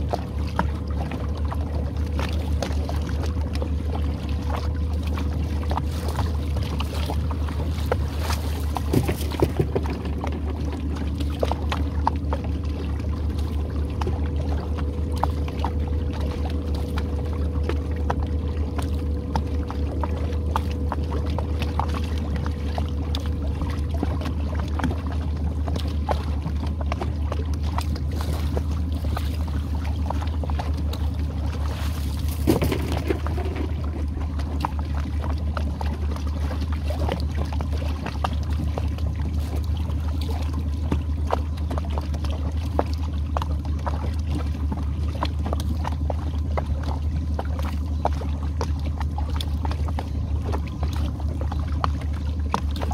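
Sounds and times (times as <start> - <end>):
boat motor humming: 0.0 - 52.9.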